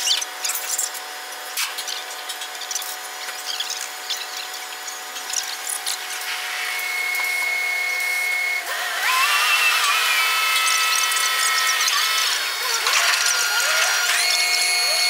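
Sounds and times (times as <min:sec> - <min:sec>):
hoist machinery whining: 0:01.8 - 0:15.0.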